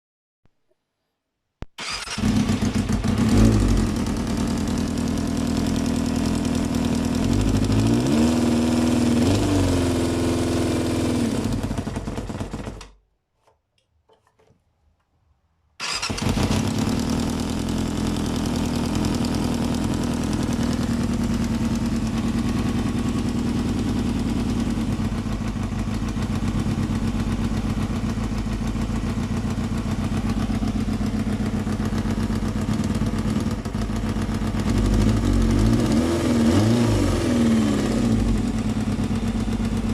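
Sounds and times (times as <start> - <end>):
motorcycle engine revving and idling: 1.8 - 12.9, 15.8 - 39.9.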